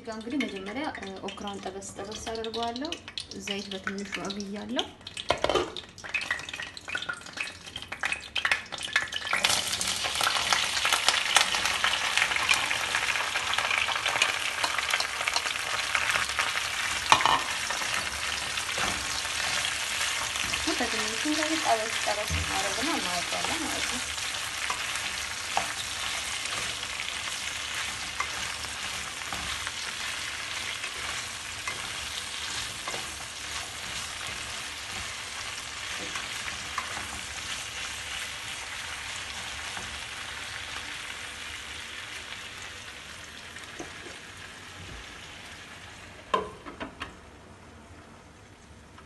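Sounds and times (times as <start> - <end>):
okra sizzling in oil: 0.0 - 46.4.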